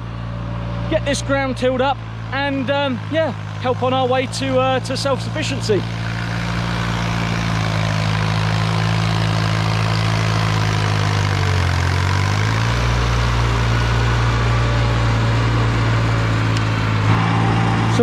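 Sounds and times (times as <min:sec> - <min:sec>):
tractor engine pulling a tiller: 0:00.0 - 0:18.0.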